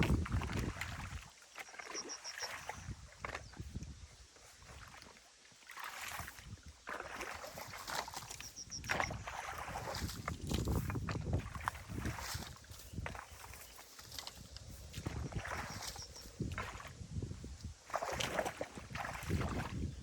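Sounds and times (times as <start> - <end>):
water and mud splashing: 0.0 - 20.0.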